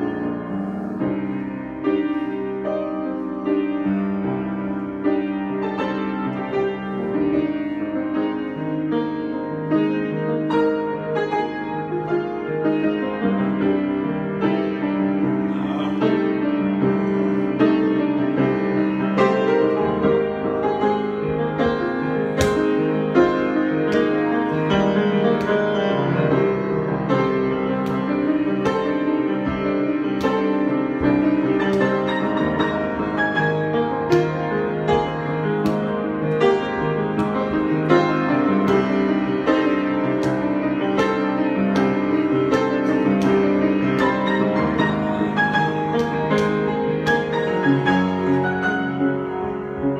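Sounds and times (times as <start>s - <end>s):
piano playing chords: 0.0s - 49.9s.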